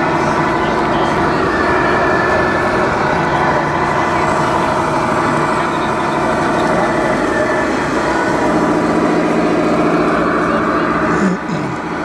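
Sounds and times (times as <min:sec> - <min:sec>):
simulated diesel truck engine: 0:00.0 - 0:12.0.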